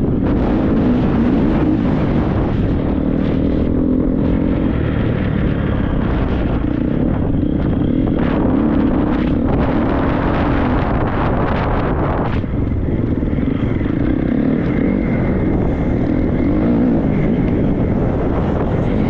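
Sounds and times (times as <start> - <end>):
motocross bike engine revving: 0.0 - 19.0
rushing wind: 0.0 - 19.0.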